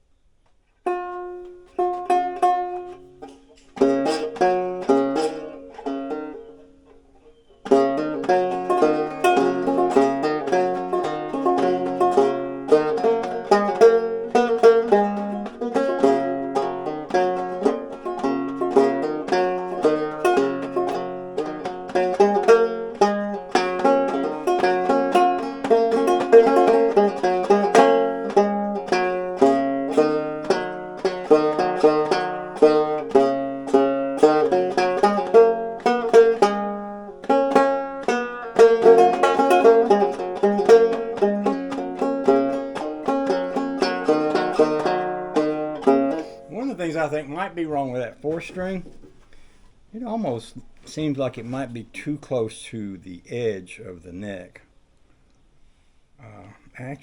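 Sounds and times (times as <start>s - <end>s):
banjo being played: 0.8s - 52.4s.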